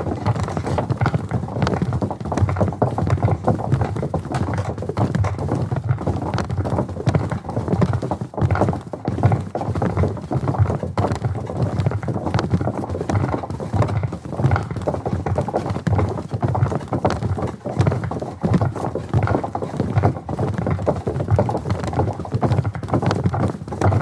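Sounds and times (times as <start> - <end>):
boots marching on wooden bridge: 0.0 - 24.0.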